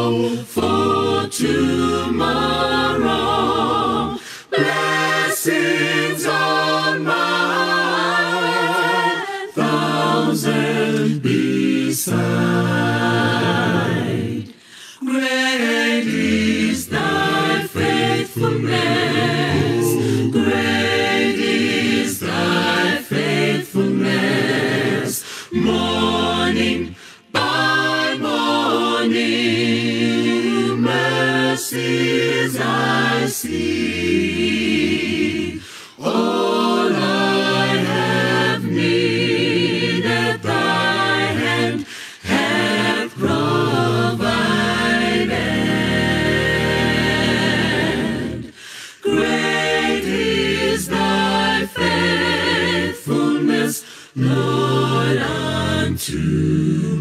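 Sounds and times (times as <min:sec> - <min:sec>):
a cappella group singing hymn: 0:00.0 - 0:57.0.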